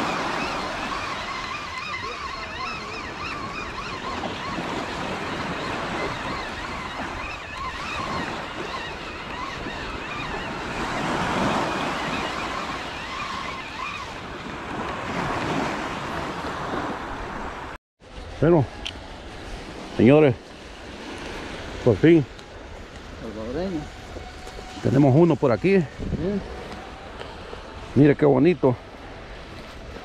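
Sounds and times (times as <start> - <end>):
ocean surf washing ashore: 0.0 - 30.0
wind: 0.0 - 30.0.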